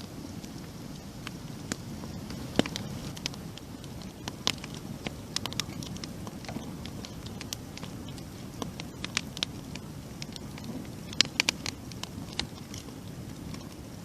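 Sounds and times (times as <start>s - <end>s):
campfire flame rushing: 0.0s - 14.0s
fire crackling and popping: 0.0s - 14.0s.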